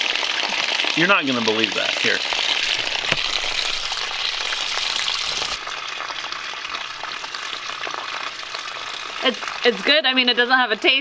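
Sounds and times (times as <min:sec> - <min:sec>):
water hissing from hose: 0:00.0 - 0:09.8.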